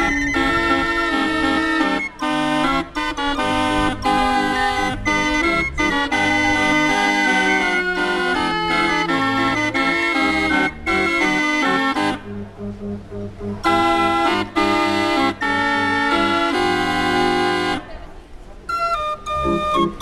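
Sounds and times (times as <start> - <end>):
barrel organ playing: 0.0 - 17.8, 18.7 - 20.0.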